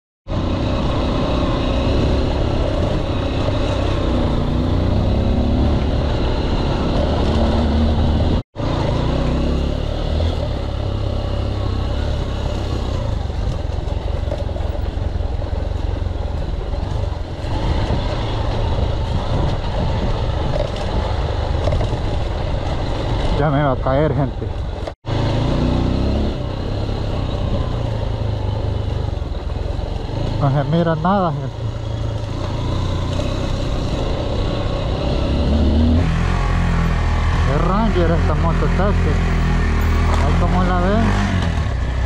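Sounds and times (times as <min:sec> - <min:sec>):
motorcycle engine running: 0:00.3 - 0:42.0.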